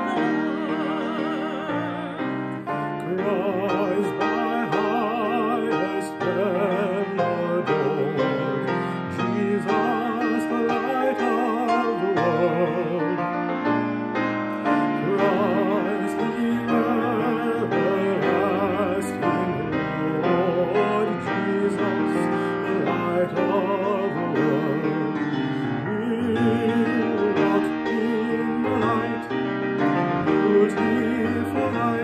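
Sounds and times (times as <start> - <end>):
person singing with vibrato: 0.0 - 13.6, 14.5 - 32.0
piano: 0.0 - 32.0.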